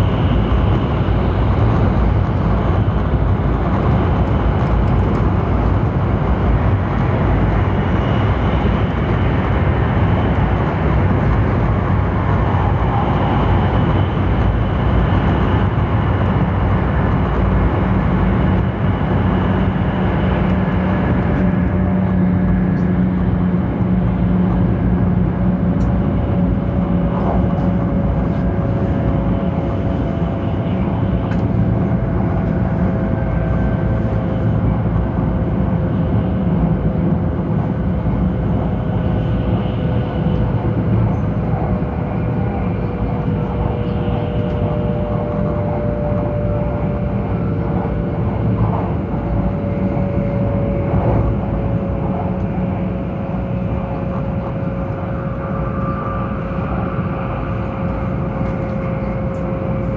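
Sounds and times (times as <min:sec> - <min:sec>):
train interior rumble: 0:00.0 - 0:59.9
train whine: 0:00.0 - 0:59.9.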